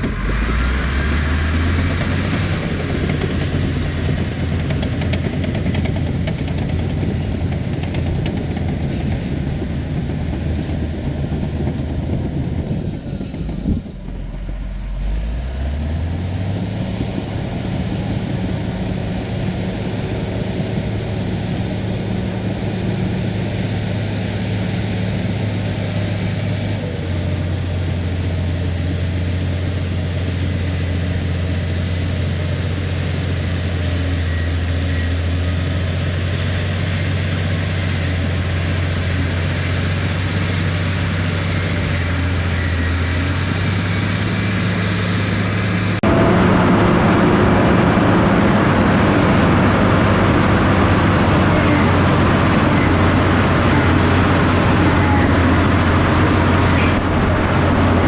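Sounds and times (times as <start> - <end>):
earthmoving machine engine running: 0.0 - 58.0.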